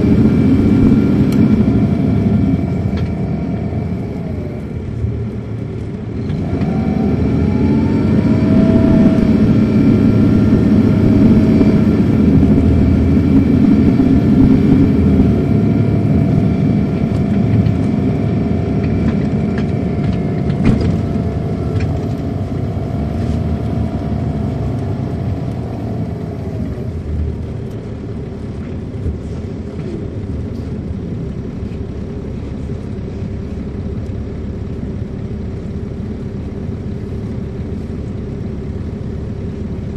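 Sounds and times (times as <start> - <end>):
diesel bus engine accelerating: 0.0 - 39.9
steady engine whine: 0.0 - 39.9.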